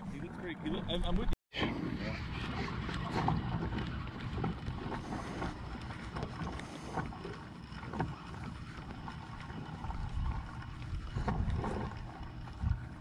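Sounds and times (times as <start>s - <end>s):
water lapping at plastic hull: 0.0s - 13.0s
wind buffeting microphone: 0.0s - 13.0s.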